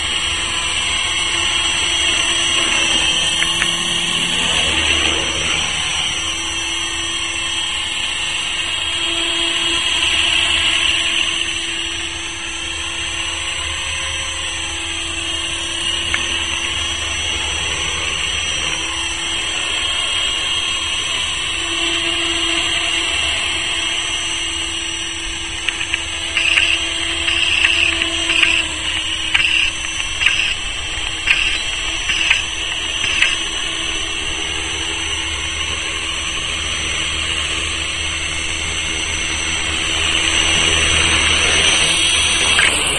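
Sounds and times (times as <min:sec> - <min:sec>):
rc helicopter whine: 0:00.0 - 0:42.9.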